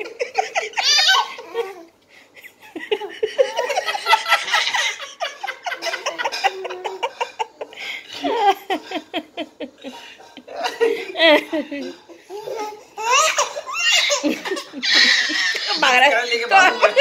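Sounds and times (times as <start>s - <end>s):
laughter and giggling: 0.0s - 15.9s, 16.5s - 17.0s.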